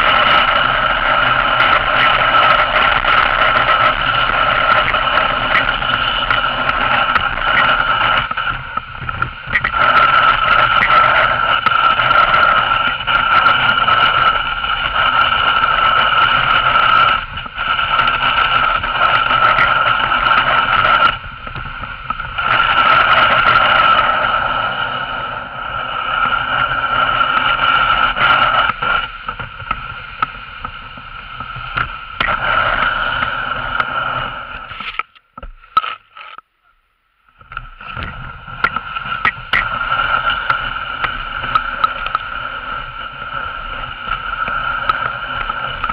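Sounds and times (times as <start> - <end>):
sled runners scraping over snow: 0.0 - 35.0, 37.6 - 45.9.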